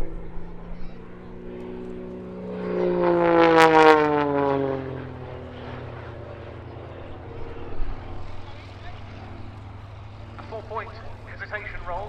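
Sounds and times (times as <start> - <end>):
propeller plane passing by: 0.0 - 12.0.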